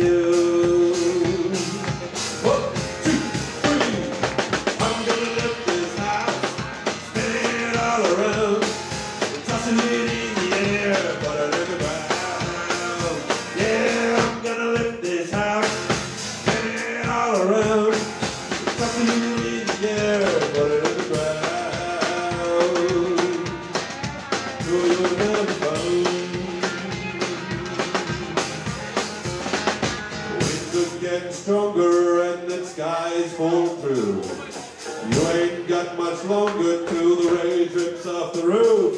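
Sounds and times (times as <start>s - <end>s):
live country band playing: 0.0s - 38.9s.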